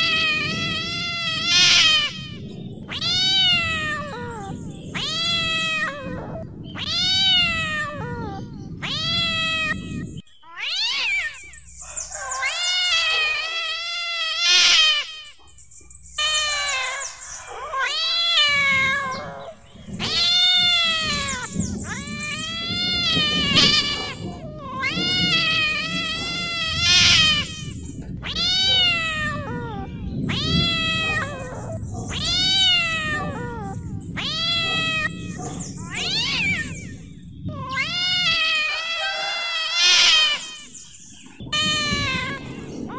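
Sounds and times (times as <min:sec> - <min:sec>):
low background rumble: 0:00.0 - 0:39.0
cats meowing and yowling: 0:00.0 - 0:42.9.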